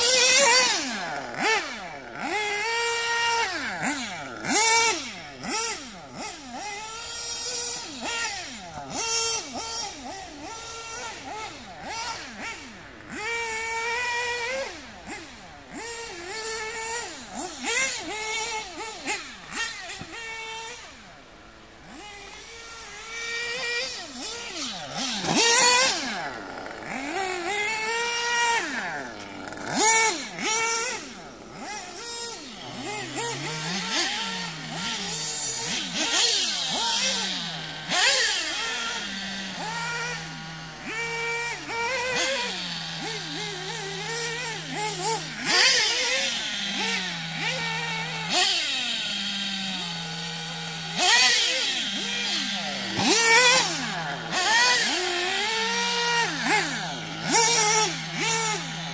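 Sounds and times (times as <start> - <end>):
rc car motors revving: 0.0 - 58.9.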